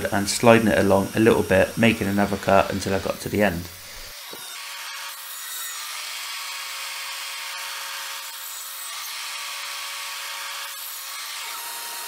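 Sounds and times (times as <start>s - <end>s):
mitre saw cutting wood: 0.0s - 12.0s.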